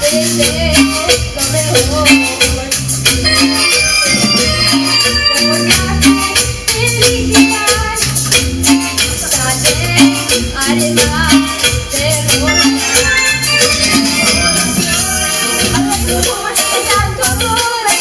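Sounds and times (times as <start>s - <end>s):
repeating bass line: 0.0s - 16.3s
latin band music: 0.0s - 18.0s
rattling high percussion: 0.0s - 18.0s.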